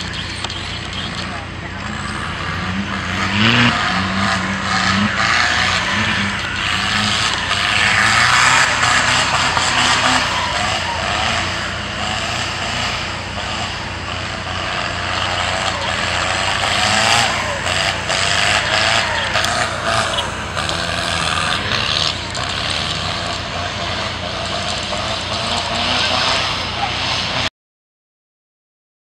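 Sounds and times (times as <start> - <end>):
vehicle engine and tyre noise: 0.0 - 27.5
voices: 0.0 - 27.5.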